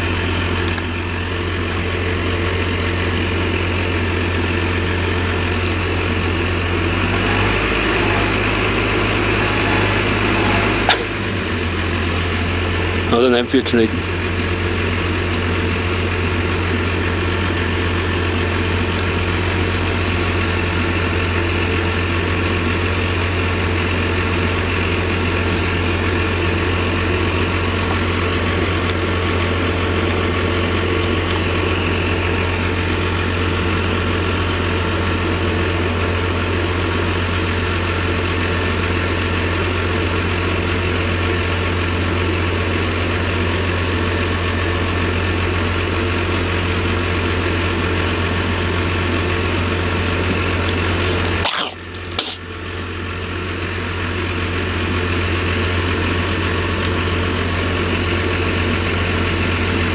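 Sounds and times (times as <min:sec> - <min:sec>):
harvester engine drone: 0:00.0 - 0:59.9.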